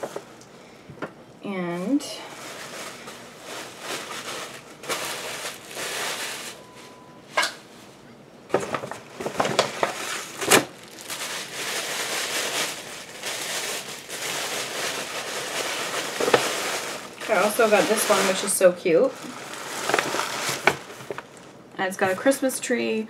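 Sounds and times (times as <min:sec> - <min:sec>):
paper bag rustling and crinkling: 0:01.7 - 0:07.0, 0:08.5 - 0:22.3.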